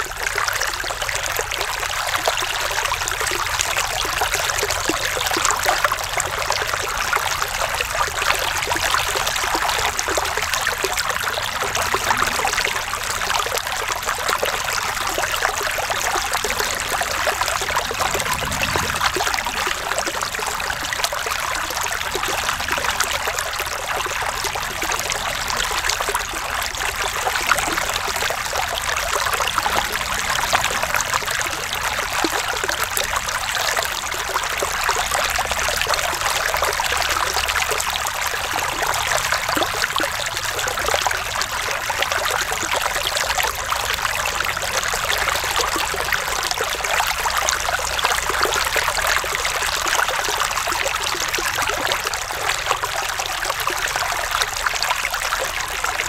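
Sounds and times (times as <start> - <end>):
stream splashing over stones: 0.0 - 56.0.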